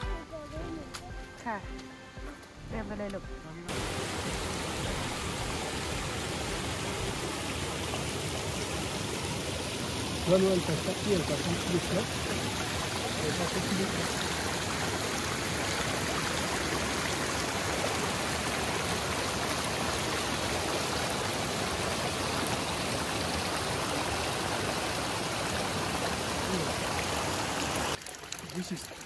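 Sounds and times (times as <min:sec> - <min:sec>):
stream rushing: 0:03.7 - 0:29.0.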